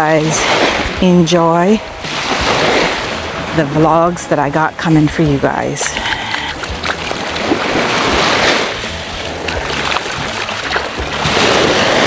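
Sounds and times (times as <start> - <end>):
surf washing onto beach: 0.0 - 5.2, 6.6 - 12.0
background music: 0.0 - 12.0.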